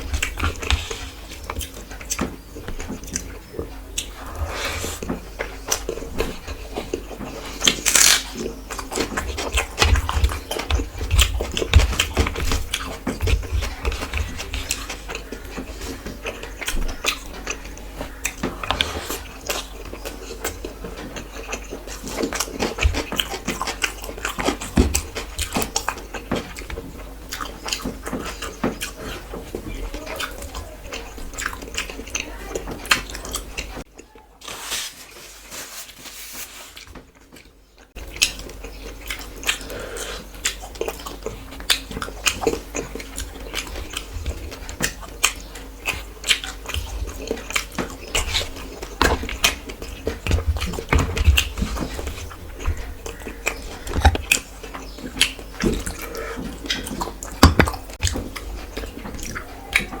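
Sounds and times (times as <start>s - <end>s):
chewing and mouth smacking: 0.0s - 34.6s, 36.8s - 60.0s.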